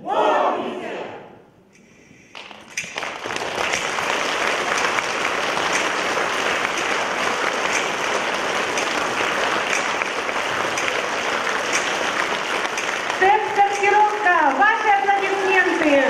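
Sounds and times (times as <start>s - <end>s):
audience applauding: 2.3s - 16.0s.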